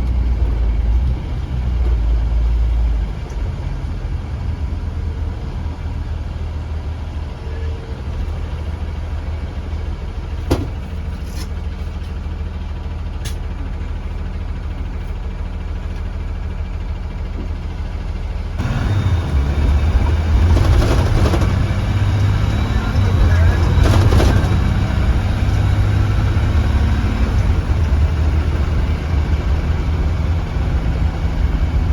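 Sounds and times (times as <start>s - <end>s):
bus engine rumbling: 0.0s - 31.9s.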